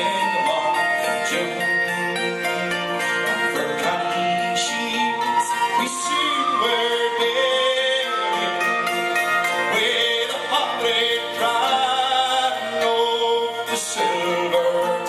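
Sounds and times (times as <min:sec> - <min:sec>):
plucked strings: 0:00.0 - 0:15.0
strummed acoustic guitar: 0:00.0 - 0:15.0
tin whistle melody: 0:00.0 - 0:15.0.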